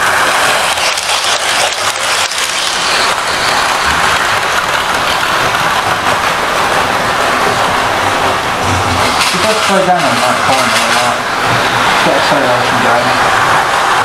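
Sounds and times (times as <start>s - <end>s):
model train rushing noise: 0.0s - 14.0s.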